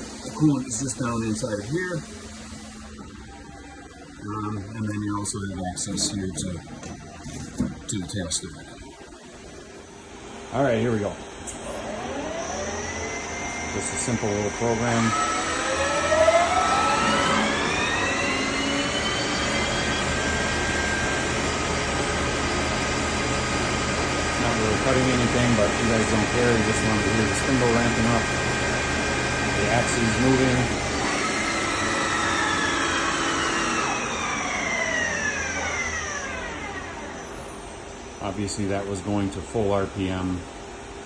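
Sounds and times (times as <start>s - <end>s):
lathe spindle whine rising: 0.0s - 7.6s, 8.2s - 41.0s
machine hum: 0.0s - 41.0s.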